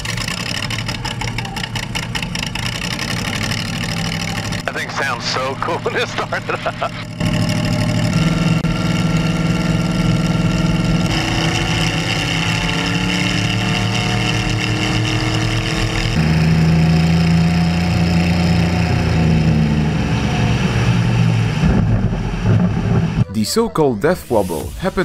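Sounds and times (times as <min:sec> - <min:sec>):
aircraft engine and propeller: 0:00.0 - 0:23.2.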